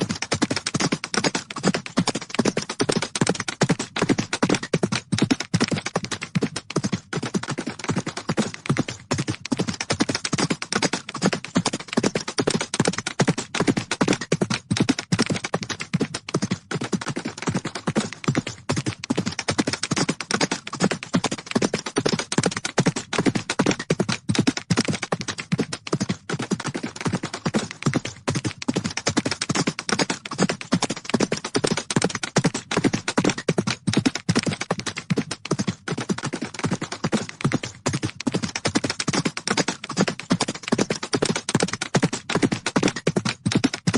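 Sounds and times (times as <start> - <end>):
horse hooves galloping: 0.0 - 43.9.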